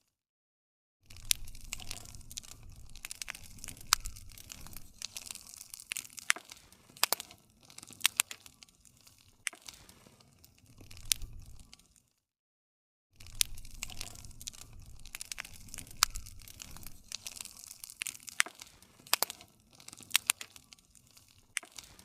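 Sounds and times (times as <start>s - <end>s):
flames hissing and rumbling: 1.1s - 11.8s, 13.2s - 22.0s
wood crackling and popping: 1.1s - 12.2s, 13.2s - 22.0s.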